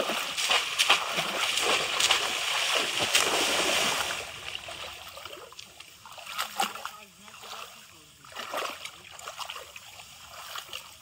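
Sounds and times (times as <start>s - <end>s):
muddy water splashing: 0.0s - 11.0s.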